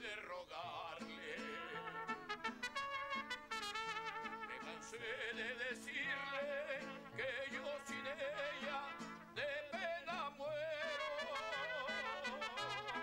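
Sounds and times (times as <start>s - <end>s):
man singing with vibrato: 0.0s - 13.0s
guitars: 0.2s - 13.0s.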